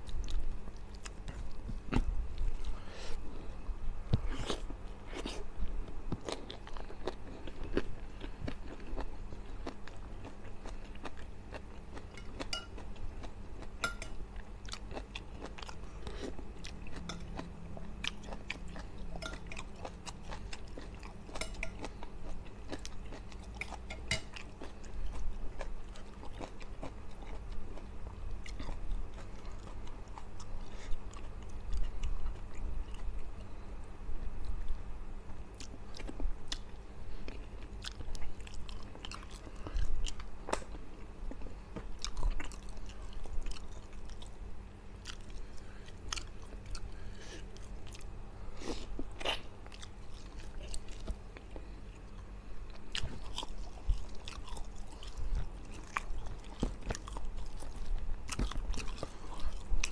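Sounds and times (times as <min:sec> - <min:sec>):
person chewing food: 0:00.0 - 0:44.4, 0:45.0 - 0:59.9.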